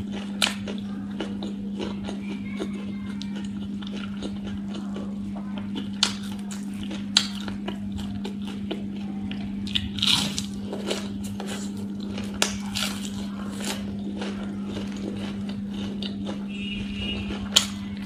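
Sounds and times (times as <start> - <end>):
crunching and chewing fried food: 0.0 - 18.0
steady low hum: 0.0 - 18.0.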